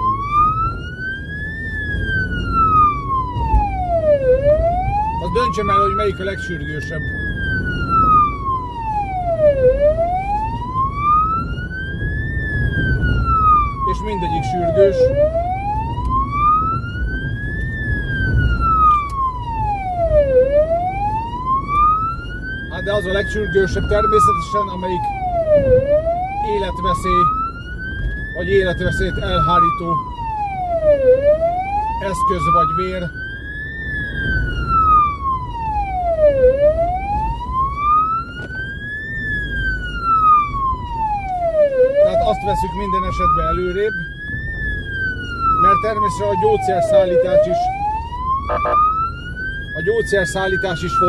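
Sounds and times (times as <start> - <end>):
emergency siren wailing: 0.0 - 51.0
engine and road rumble: 0.0 - 51.0.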